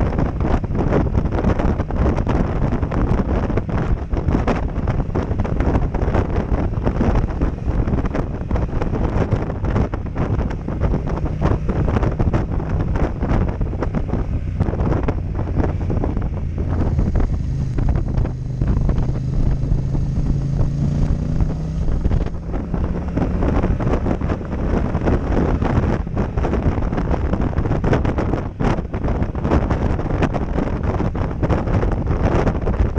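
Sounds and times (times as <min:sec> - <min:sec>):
motorcycle engine: 0:00.0 - 0:32.9
wind buffeting microphone: 0:00.0 - 0:32.9.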